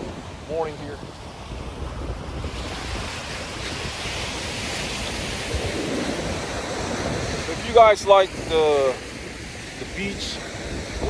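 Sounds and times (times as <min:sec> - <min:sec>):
ocean surf washing onto beach: 0:00.0 - 0:11.0
wind on the microphone: 0:00.0 - 0:11.0.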